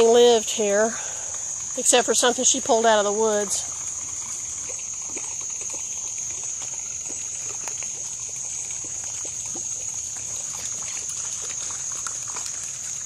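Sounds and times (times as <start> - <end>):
faint ticks and rustles: 0.0 - 13.0
insects droning: 0.0 - 13.0.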